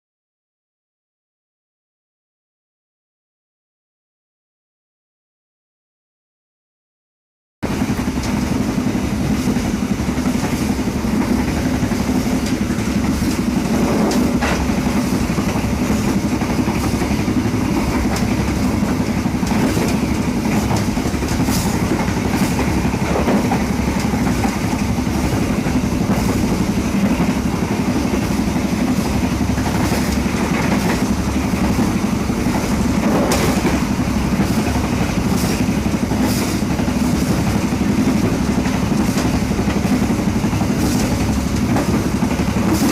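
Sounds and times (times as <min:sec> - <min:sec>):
train carriage rumbling on track: 0:07.6 - 0:42.9
wheels clicking over rails: 0:07.7 - 0:42.9.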